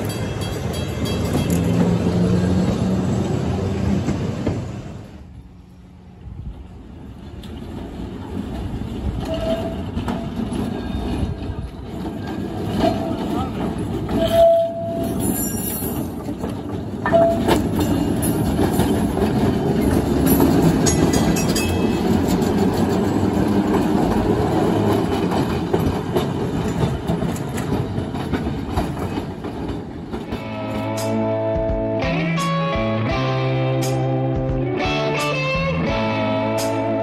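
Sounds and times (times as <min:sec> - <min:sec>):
trolley wheels rumbling on rails: 0:00.0 - 0:33.2.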